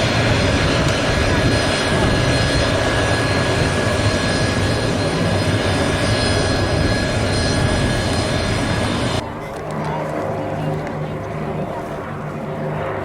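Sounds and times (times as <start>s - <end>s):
high engine whine: 0.0s - 11.8s
aircraft turbine engines roaring: 0.0s - 13.0s.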